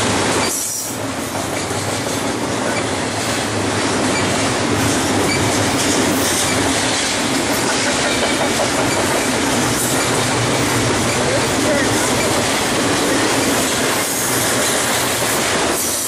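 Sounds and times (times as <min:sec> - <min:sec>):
steel wheels on rails: 0:00.0 - 0:16.0
train cars rattling: 0:00.0 - 0:16.0.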